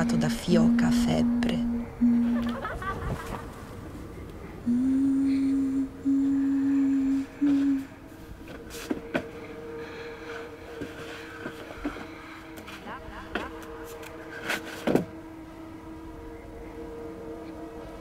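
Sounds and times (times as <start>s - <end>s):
faint steady drone: 0.0s - 18.0s
person humming long notes: 0.0s - 18.0s.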